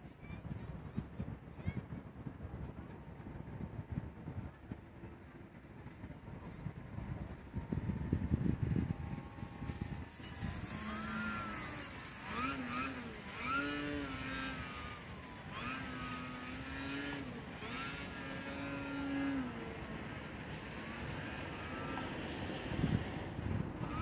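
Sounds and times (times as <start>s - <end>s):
hazy background noise: 0.0s - 24.0s
model plane motor droning: 4.6s - 24.0s.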